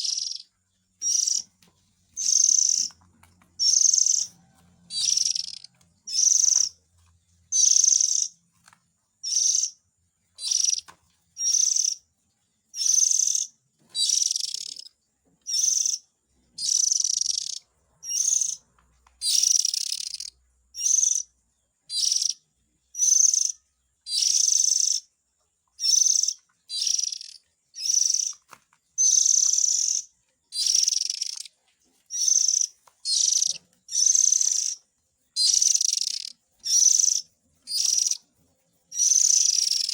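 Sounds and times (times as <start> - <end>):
scratchy high bird calls: 0.0 - 8.6, 9.2 - 12.0, 12.7 - 21.3, 21.9 - 25.1, 25.8 - 39.9.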